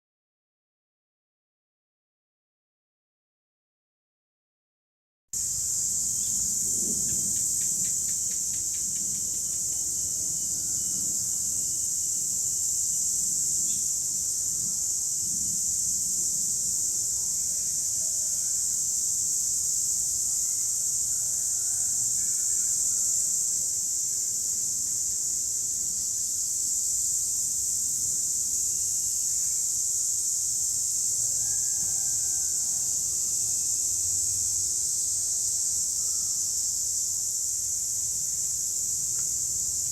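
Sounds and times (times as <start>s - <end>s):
cicadas buzzing: 5.4s - 39.9s.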